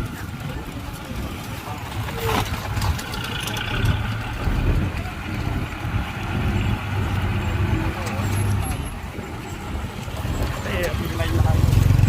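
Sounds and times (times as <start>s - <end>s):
diesel machinery engine droning: 0.0s - 12.0s.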